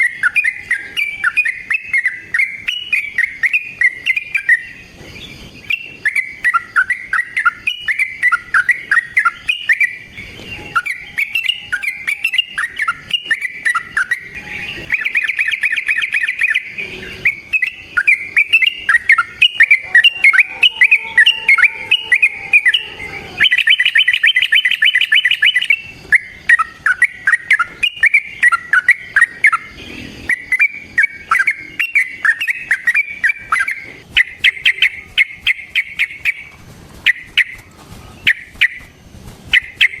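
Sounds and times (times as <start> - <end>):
bird chattering song: 0.0 - 40.0.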